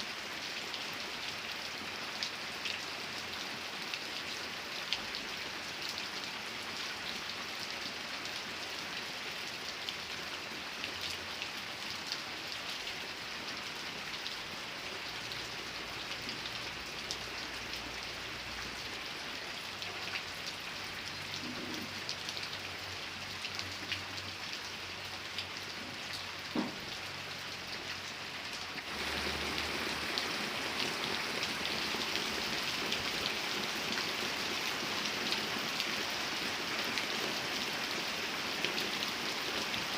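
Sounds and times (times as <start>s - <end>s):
rain falling: 0.0s - 39.9s
raindrops pattering on surface: 0.0s - 39.9s.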